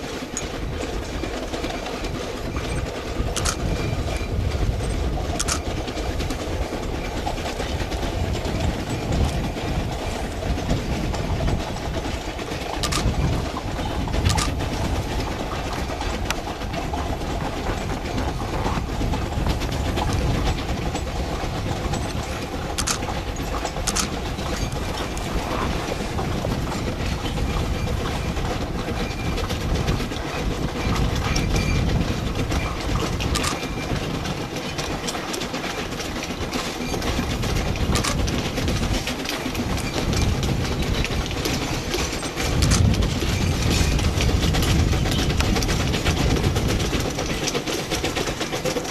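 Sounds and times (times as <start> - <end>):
steam train rumbling: 0.0 - 48.9
wheels clattering over rails: 0.0 - 48.9.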